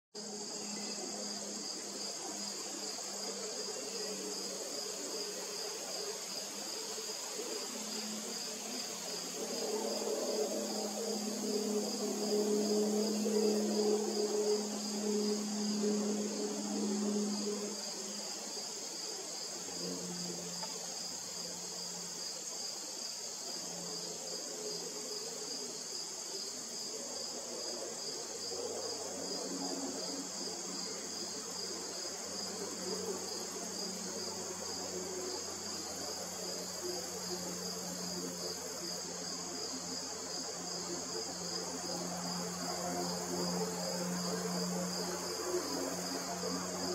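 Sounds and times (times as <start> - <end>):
insects trilling: 0.2 - 46.9.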